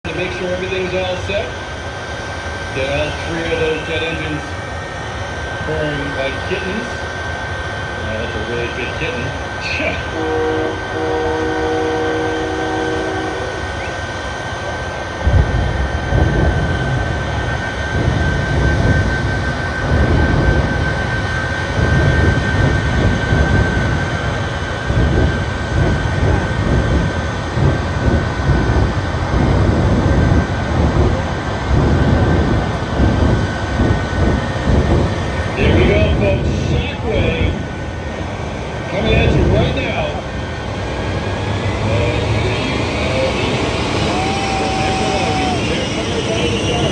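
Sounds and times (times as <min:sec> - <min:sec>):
jet turbine whine: 0:00.0 - 0:46.9
rough exhaust rumble: 0:00.0 - 0:46.9.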